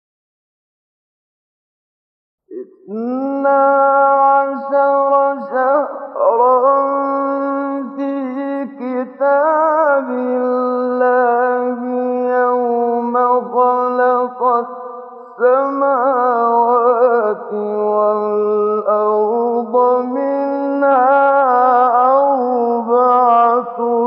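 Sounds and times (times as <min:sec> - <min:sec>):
man chanting melodically: 0:02.5 - 0:24.0.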